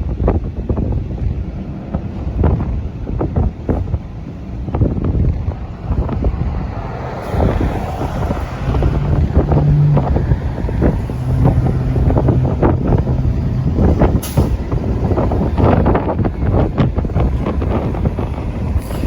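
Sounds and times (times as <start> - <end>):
bus engine running: 0.0 - 19.0
wind buffeting microphone: 0.0 - 19.0.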